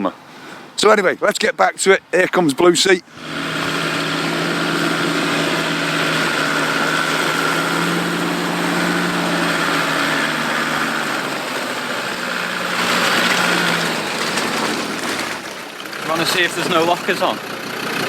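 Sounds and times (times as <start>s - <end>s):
off-road vehicle engine running: 3.1s - 18.0s.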